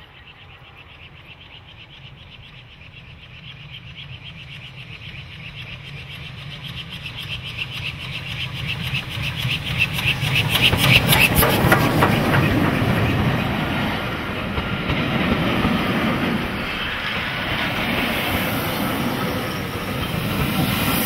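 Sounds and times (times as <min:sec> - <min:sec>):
train low rumble: 0:00.0 - 0:21.0
steam locomotive exhaust beats: 0:03.3 - 0:21.0.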